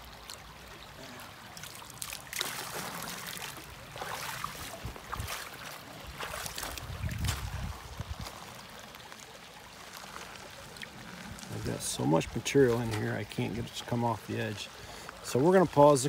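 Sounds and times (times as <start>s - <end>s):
splashes into a creek: 0.2s - 13.9s.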